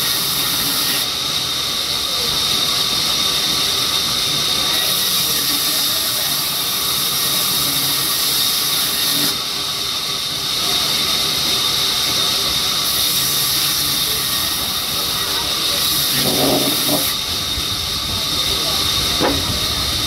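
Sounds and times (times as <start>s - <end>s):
band saw cutting wood: 0.0s - 20.0s.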